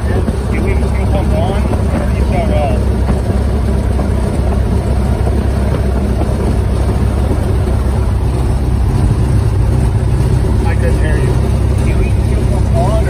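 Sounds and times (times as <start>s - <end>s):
piston engine and propeller running: 0.0s - 13.0s.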